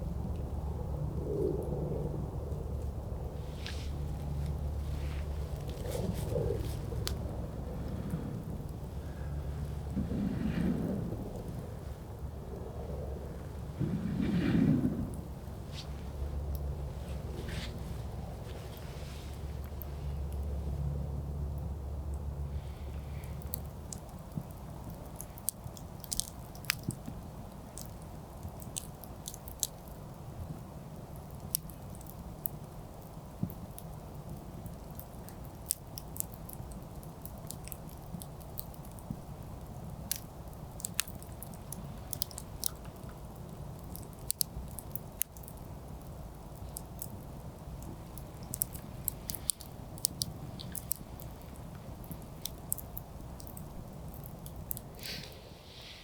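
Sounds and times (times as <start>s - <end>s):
low background noise: 0.0s - 56.0s
campfire crackling and popping: 2.4s - 20.5s, 21.5s - 56.0s.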